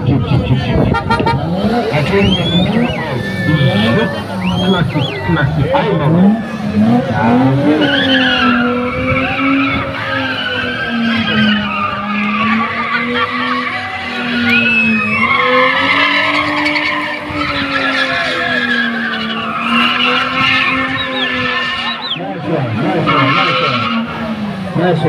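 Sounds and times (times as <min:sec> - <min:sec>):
car engine at high revs: 0:00.0 - 0:25.0
tyres squealing: 0:01.9 - 0:24.2.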